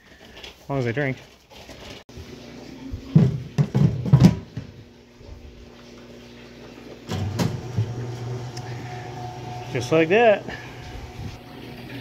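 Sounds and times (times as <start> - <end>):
machine hum: 2.2 - 12.0.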